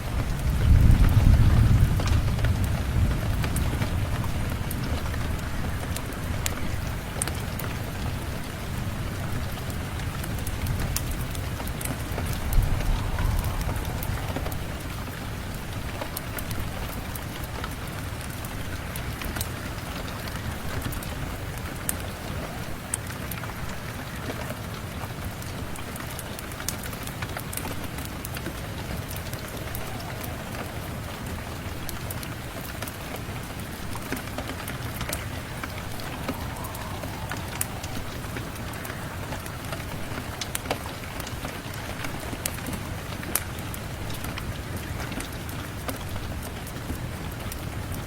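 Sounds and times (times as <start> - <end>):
steady rain: 0.0 - 48.0
wood fire crackling: 0.0 - 48.0.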